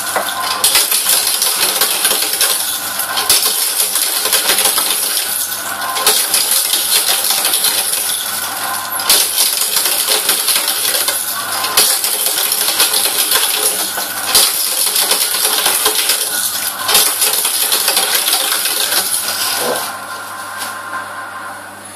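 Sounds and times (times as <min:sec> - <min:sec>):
shredder crunching: 0:00.0 - 0:20.2
motor hum: 0:00.0 - 0:21.9.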